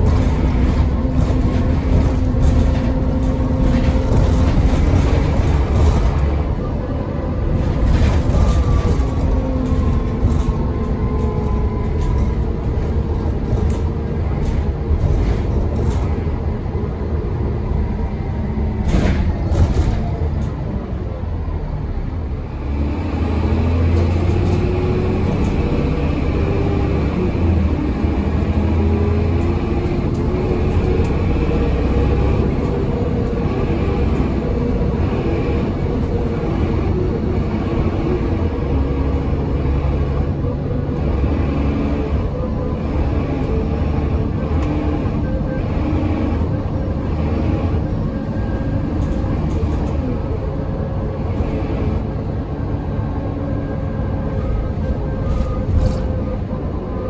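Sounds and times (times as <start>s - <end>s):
bus diesel engine pulling hard: 0.0s - 57.0s.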